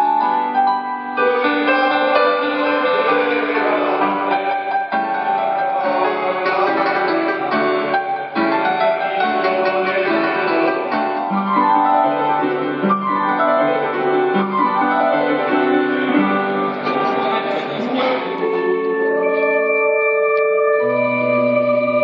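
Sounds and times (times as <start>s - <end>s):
digital piano playing: 0.0s - 22.0s.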